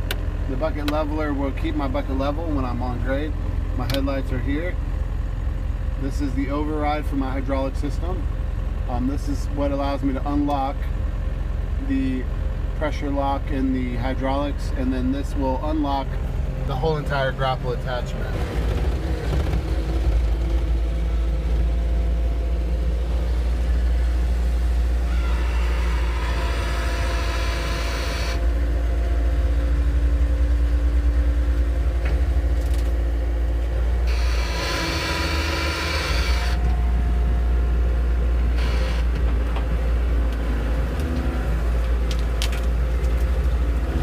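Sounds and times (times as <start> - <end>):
diesel engine rumbling: 0.0 - 44.0.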